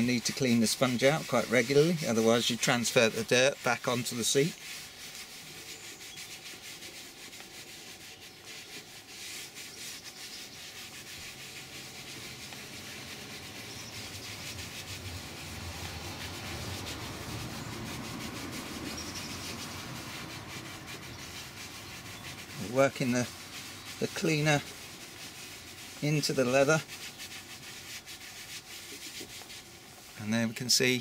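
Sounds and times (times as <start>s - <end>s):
sponge rubbing leather seat: 0.0s - 30.8s.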